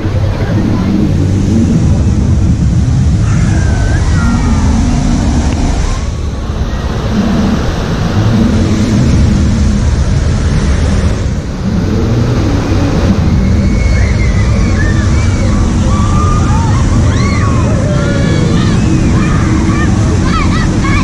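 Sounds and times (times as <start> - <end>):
water rushing over rapids: 0.0 - 21.0.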